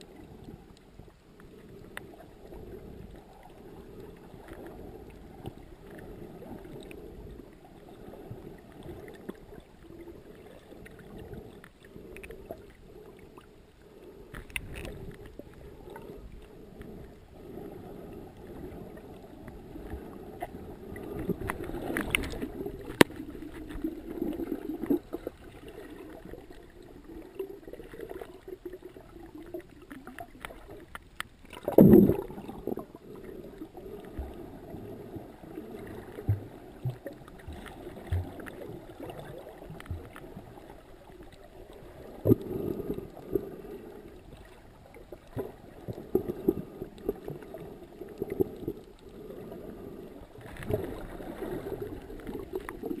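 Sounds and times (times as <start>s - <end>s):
muffled underwater rushing: 0.0s - 53.0s.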